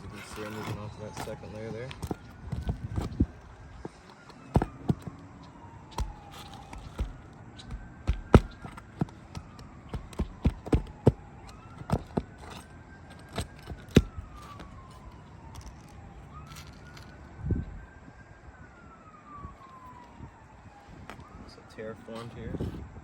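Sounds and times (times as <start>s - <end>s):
distant siren: 0.0s - 23.0s.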